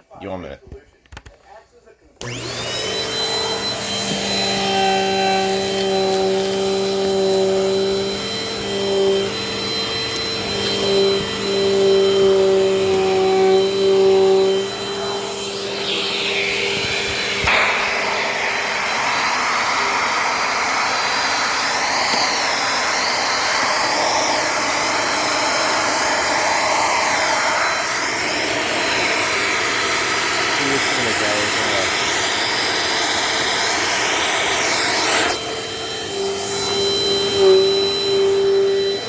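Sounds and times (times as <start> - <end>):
vacuum cleaner running: 2.2 - 39.0.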